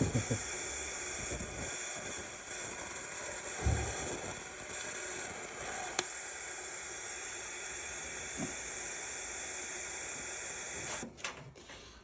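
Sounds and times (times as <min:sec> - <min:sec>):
welding arc hiss: 0:00.0 - 0:11.0.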